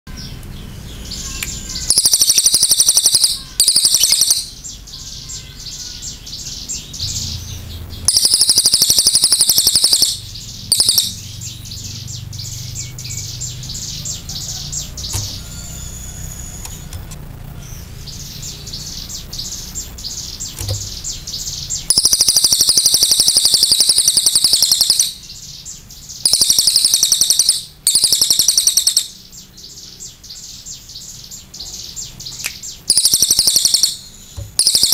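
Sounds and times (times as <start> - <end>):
jay singing rapid trills: 0.1 - 34.9.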